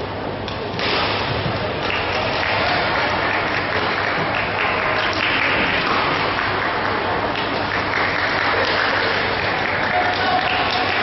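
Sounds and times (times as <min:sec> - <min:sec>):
crowd noise: 0:00.0 - 0:11.0
crowd clapping: 0:01.8 - 0:11.0.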